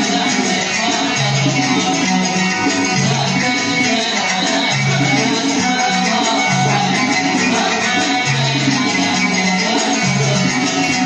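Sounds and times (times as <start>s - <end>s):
oud music: 0.0s - 11.0s.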